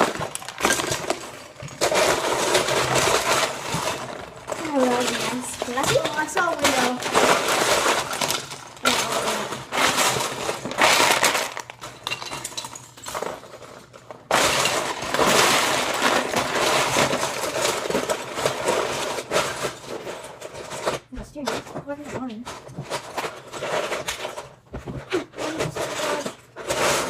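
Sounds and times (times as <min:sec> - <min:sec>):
plastic bricks clattering: 0:00.0 - 0:27.0.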